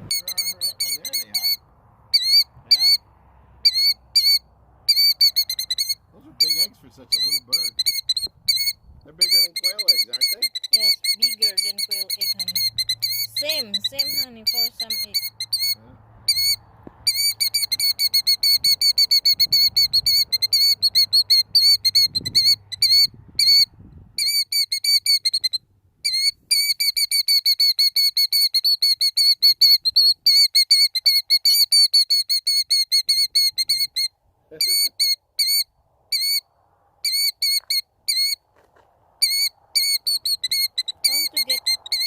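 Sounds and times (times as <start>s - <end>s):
bird piping alarm call: 0.0s - 38.4s, 39.2s - 42.0s.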